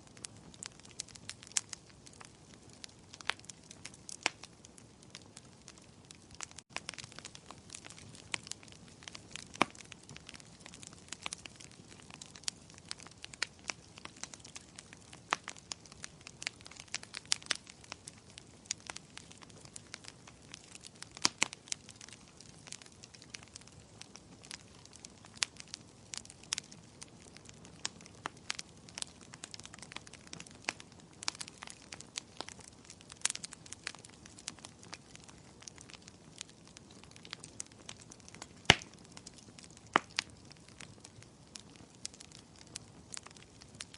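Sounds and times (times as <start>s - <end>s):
firewood crackling and popping: 0.0s - 43.9s.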